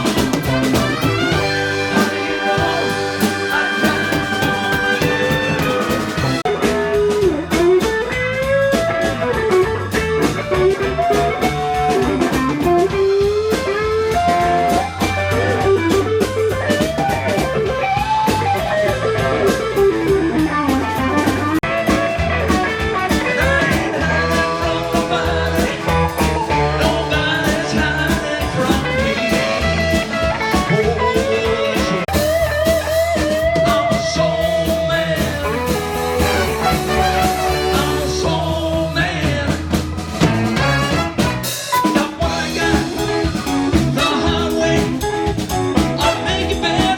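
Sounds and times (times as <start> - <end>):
live blues-rock band: 0.0 - 46.9
steady drum beat: 0.0 - 46.9.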